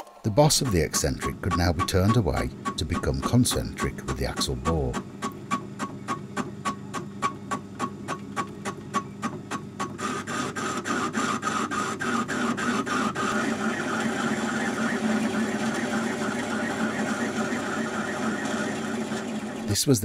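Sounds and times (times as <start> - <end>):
lathe cutting tool ticking: 0.3 - 8.8, 9.7 - 19.7.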